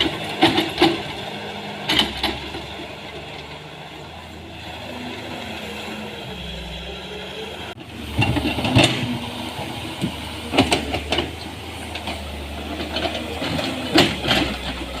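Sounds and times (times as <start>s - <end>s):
excavator machine hum: 0.0s - 15.0s.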